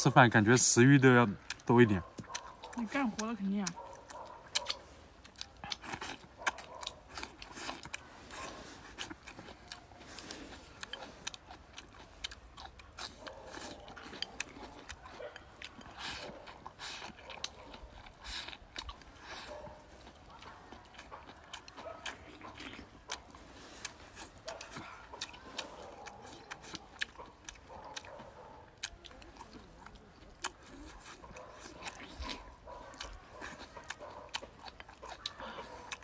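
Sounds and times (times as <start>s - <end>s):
food being chewed: 0.0s - 36.0s.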